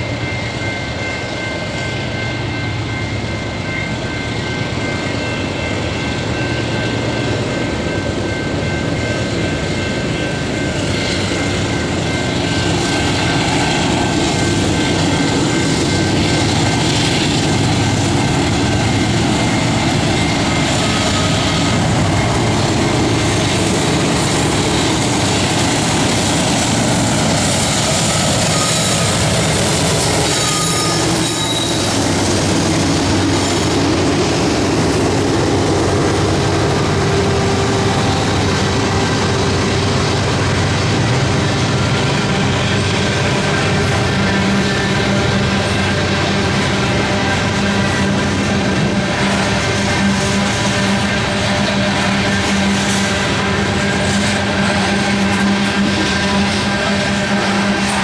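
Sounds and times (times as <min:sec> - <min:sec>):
diesel locomotive engine rumble: 0:00.0 - 0:58.0.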